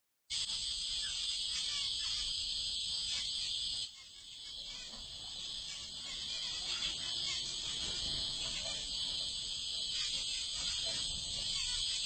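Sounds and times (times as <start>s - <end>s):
finches chirping: 0.3s - 12.0s
insects chirring: 0.3s - 12.0s.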